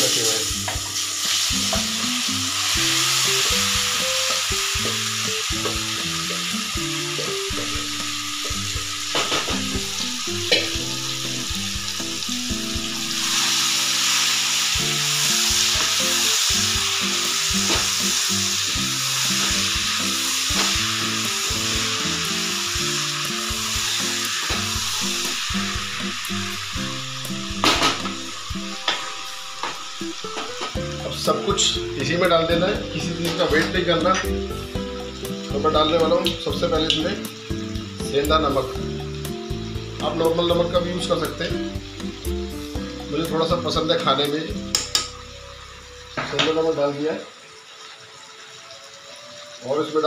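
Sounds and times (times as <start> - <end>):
mango pieces sizzling in oil: 0.0 - 50.0.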